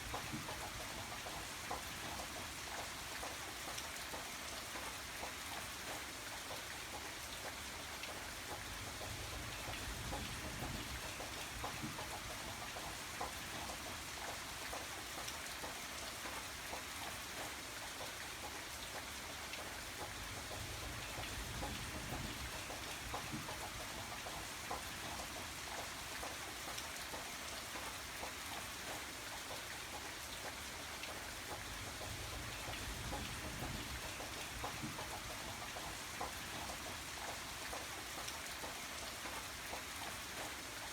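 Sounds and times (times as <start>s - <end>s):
rain drops ticking on surface: 0.0s - 40.9s.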